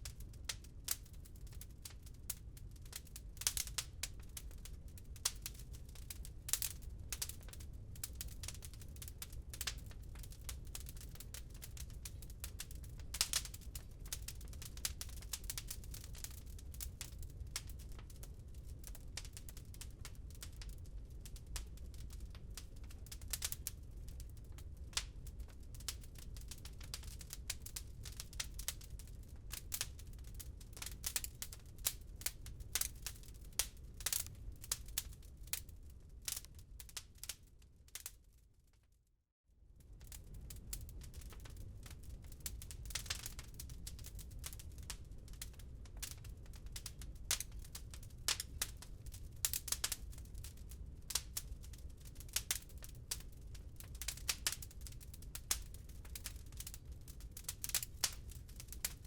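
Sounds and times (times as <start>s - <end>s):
wood fire crackling: 0.0s - 38.4s, 39.8s - 59.0s.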